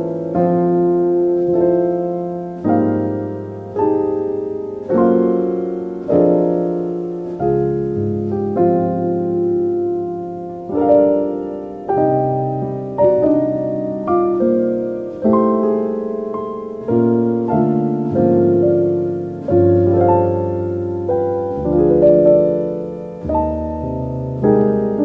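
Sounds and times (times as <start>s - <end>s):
slow gentle solo piano: 0.0s - 25.0s.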